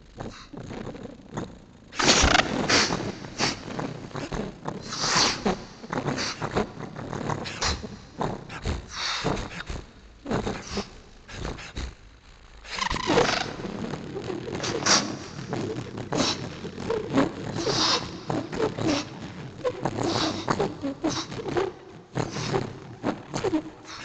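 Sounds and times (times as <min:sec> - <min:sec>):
wordless beatbox mouth sounds: 0:00.0 - 0:24.0.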